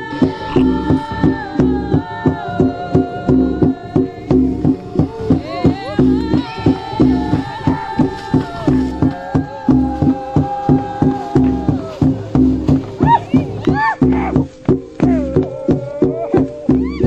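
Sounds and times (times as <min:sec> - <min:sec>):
percussion beat: 0:00.0 - 0:17.0.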